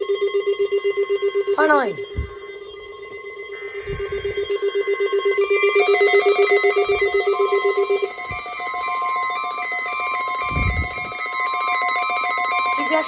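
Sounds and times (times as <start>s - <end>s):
alarm beeping in alternating pitches: 0.0s - 13.0s
fast-pulsing alarm tone: 0.0s - 13.0s
steady high warning tone: 0.0s - 13.0s.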